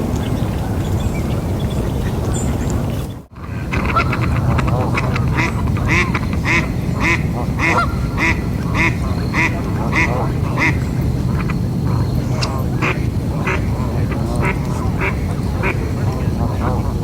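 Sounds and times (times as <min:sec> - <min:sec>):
duck quacking: 0:03.3 - 0:17.0.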